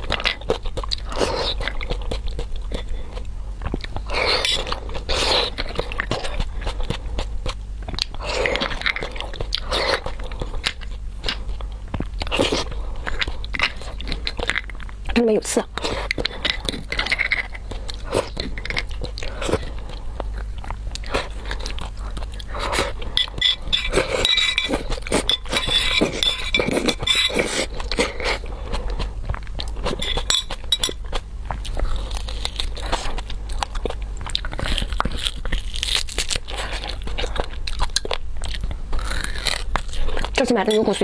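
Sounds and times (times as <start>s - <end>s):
chewing and crunching: 0.0s - 41.0s.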